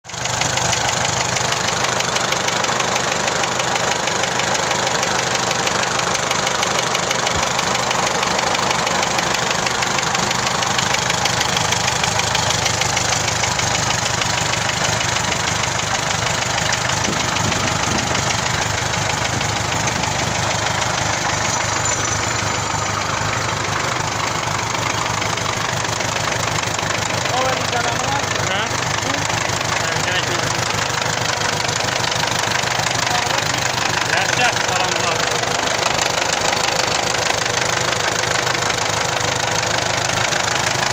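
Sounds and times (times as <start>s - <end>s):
diesel tractor engine clattering: 0.0s - 40.9s.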